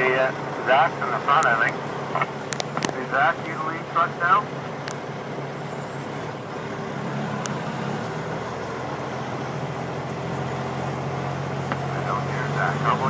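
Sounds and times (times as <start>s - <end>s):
road and wind noise: 0.0s - 13.0s
truck engine hum: 0.0s - 13.0s.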